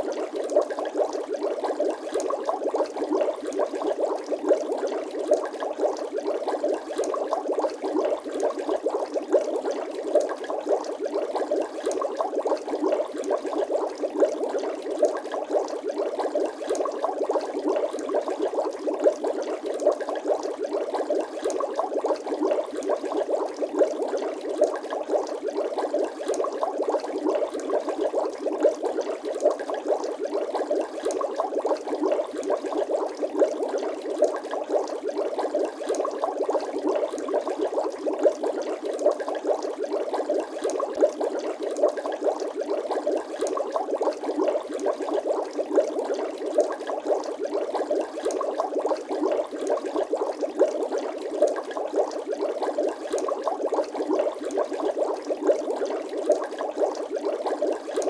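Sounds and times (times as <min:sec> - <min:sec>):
water bubbling: 0:00.0 - 0:58.0.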